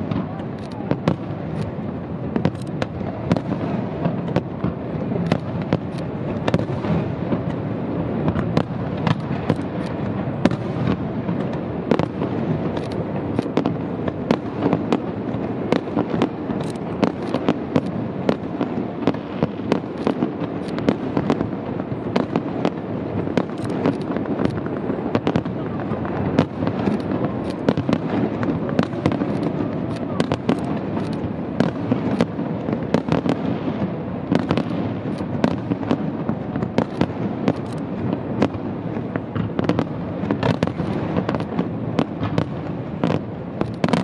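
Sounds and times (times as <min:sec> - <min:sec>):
fireworks display rumble: 0:00.0 - 0:44.0
firework shells bursting: 0:00.1 - 0:07.7, 0:08.3 - 0:44.0.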